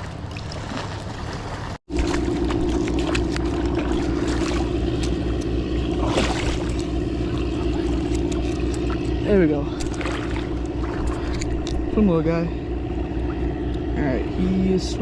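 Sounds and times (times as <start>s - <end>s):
motor humming: 1.9s - 15.0s.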